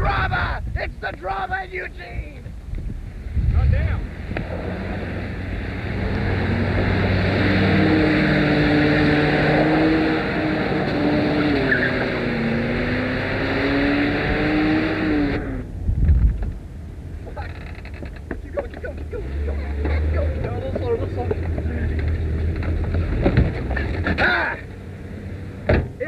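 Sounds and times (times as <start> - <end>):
car engine running hard: 3.0 - 15.9, 16.6 - 26.0.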